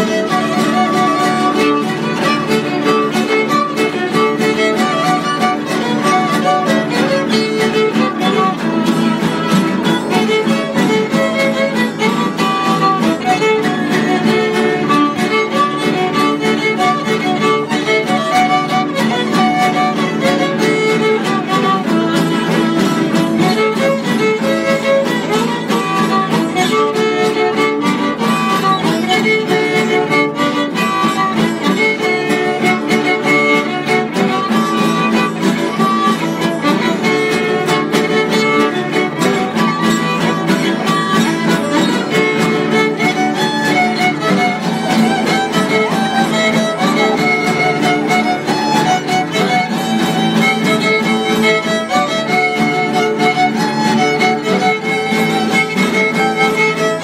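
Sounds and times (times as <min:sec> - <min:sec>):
strummed acoustic guitars: 0:00.0 - 0:57.0
violin melody: 0:00.0 - 0:57.0.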